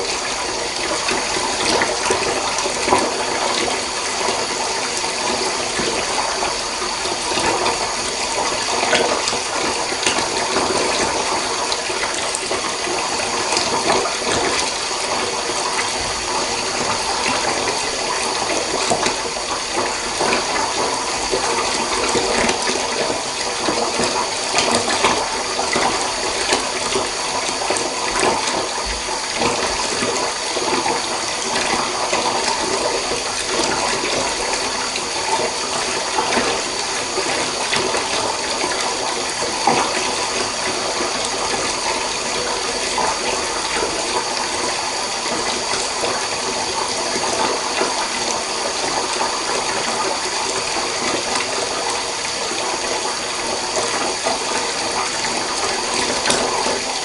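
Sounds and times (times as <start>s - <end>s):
tap water running into bathtub: 0.0s - 57.0s.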